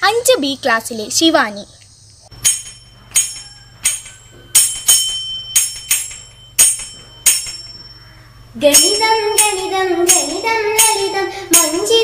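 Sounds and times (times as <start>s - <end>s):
small hand cymbals ringing: 2.3s - 12.0s.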